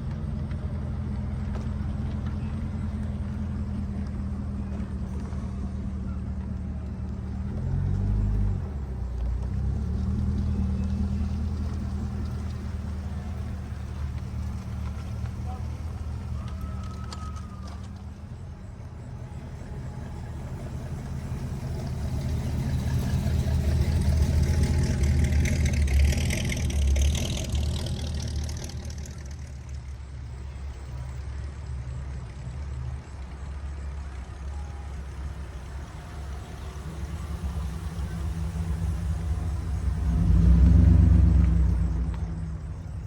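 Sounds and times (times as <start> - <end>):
car engine low rumble: 0.0 - 43.0.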